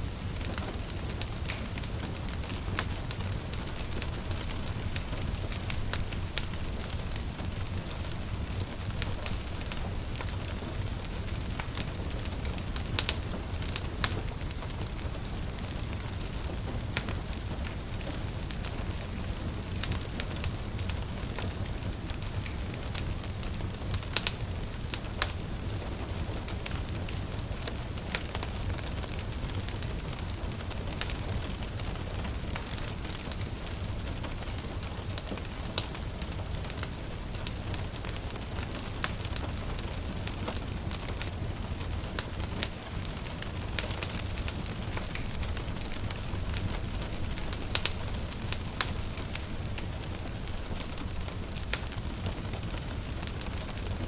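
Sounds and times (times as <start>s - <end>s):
gentle rain hiss: 0.0s - 54.0s
wood fire crackling and popping: 0.0s - 54.0s.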